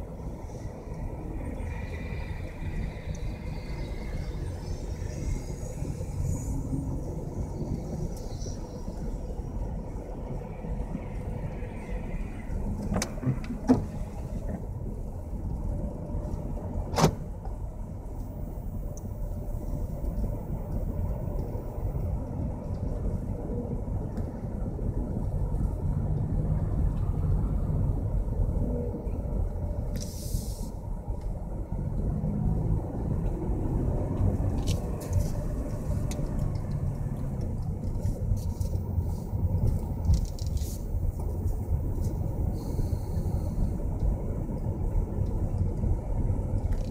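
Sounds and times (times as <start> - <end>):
motor vehicle rumble: 0.0 - 46.9.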